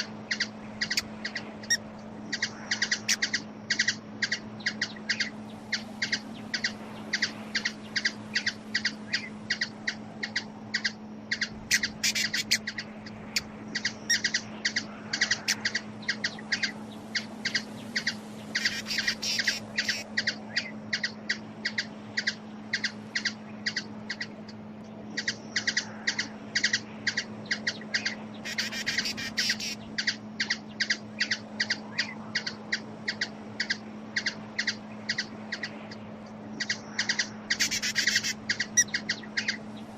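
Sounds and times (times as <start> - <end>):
constant low hum: 0.0 - 39.9
small bird chirping: 0.0 - 39.9.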